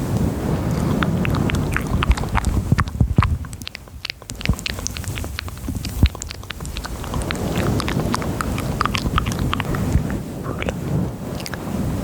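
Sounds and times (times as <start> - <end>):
sharp clicks and crackles: 0.1 - 11.6.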